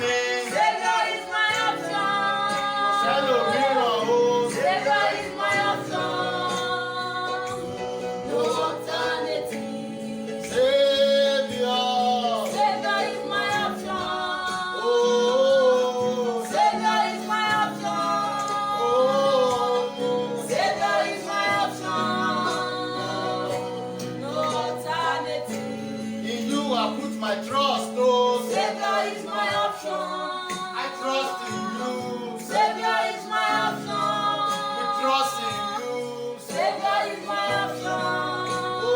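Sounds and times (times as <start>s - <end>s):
woman singing with vibrato: 0.0s - 26.8s, 28.6s - 38.9s.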